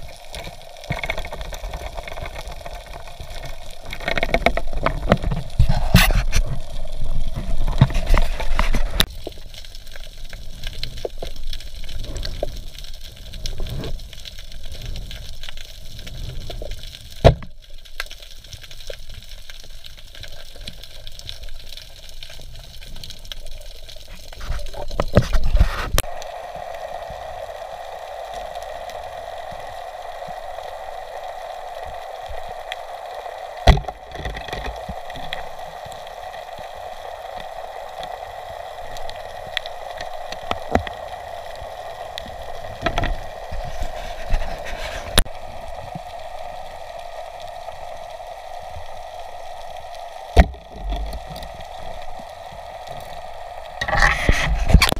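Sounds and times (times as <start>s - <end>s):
steady hiss: 0.0s - 54.9s
water sloshing underwater: 0.0s - 54.9s.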